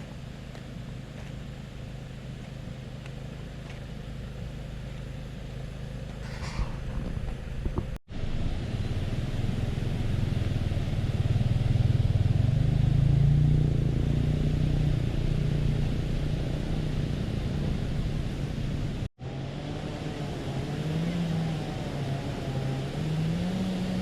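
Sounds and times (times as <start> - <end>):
road noise: 0.0 - 24.0
vehicle engine running: 0.0 - 24.0.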